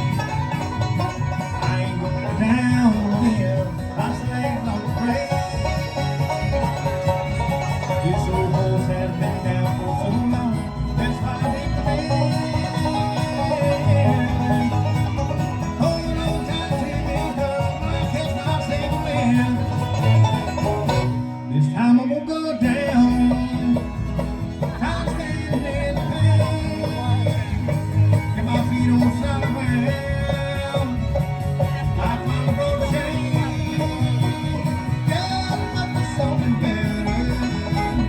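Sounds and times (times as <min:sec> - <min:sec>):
live band with plucked strings: 0:00.0 - 0:38.0.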